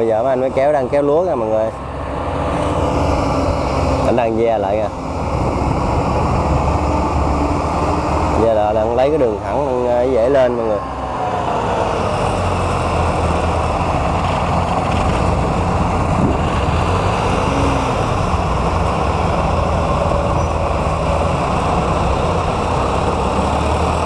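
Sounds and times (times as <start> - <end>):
small tracked carrier engine running: 0.0 - 24.0.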